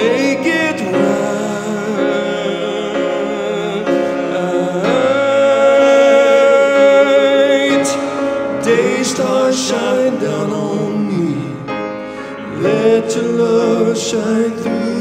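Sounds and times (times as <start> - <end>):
grand piano accompaniment: 0.0 - 15.0
man singing worship song: 0.0 - 15.0.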